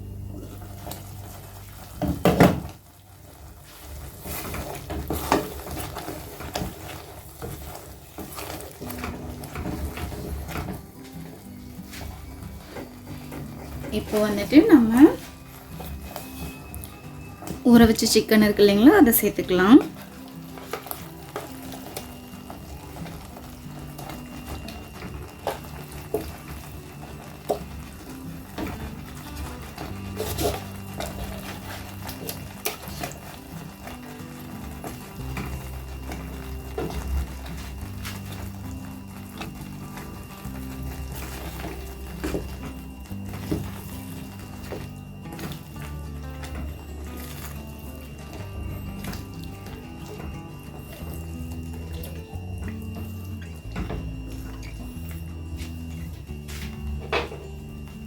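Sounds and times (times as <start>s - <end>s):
light sizzling in a pan: 0.0s - 58.0s
soft background music: 0.0s - 58.0s.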